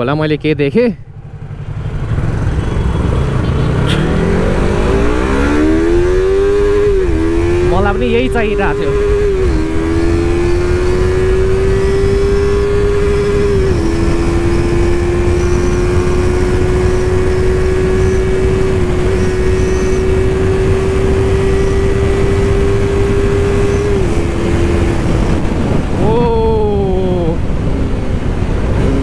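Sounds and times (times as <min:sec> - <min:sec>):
motorcycle engine at high revs: 0:01.2 - 0:29.0
wind rush on microphone: 0:02.1 - 0:29.0.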